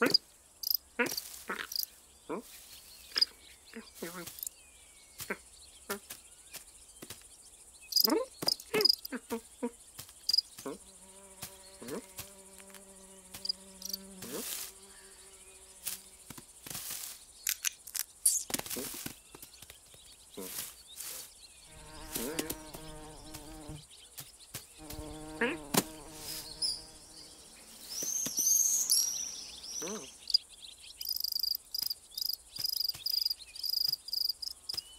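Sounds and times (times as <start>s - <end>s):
insect buzzing: 0.0s - 4.5s, 7.9s - 19.1s, 20.4s - 34.9s.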